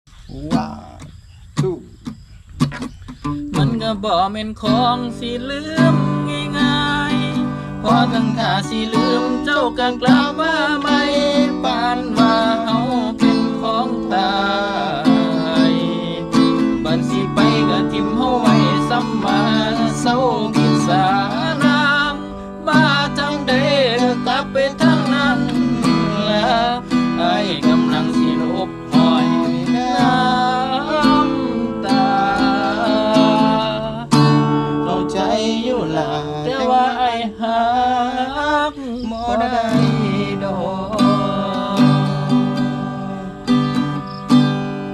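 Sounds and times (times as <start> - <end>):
person singing: 0.3 - 1.8, 3.3 - 44.2
plucked guitar: 0.3 - 44.9.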